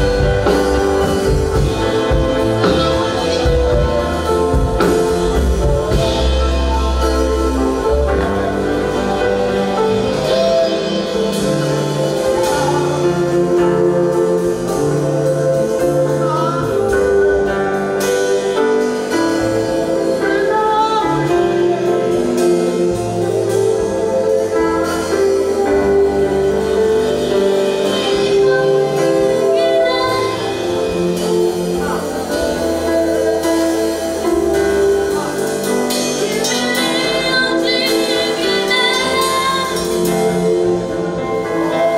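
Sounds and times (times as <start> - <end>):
bass line: 0.0 - 41.9
gospel band playing: 0.0 - 41.9.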